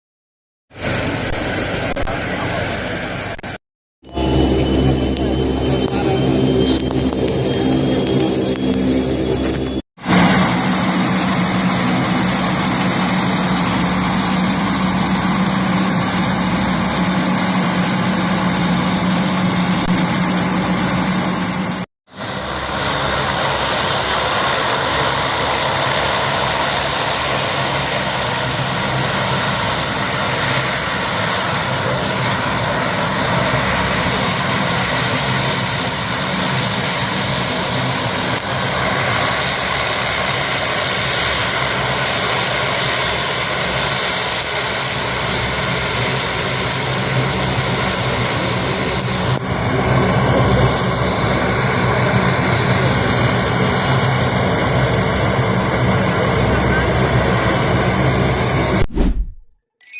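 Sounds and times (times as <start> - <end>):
airplane engines running: 0.7 - 58.9.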